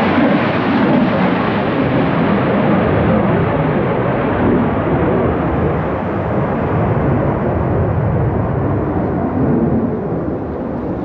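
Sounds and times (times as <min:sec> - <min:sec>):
jet aircraft rumbling overhead: 0:00.0 - 0:11.0.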